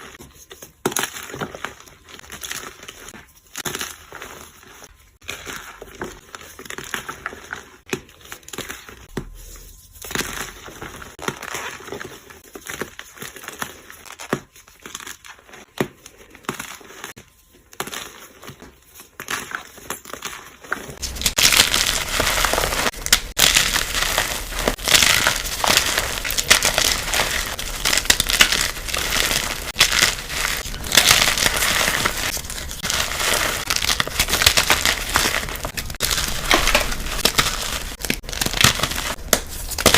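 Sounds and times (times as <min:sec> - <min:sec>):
powder blocks crunching: 0:00.0 - 0:39.9.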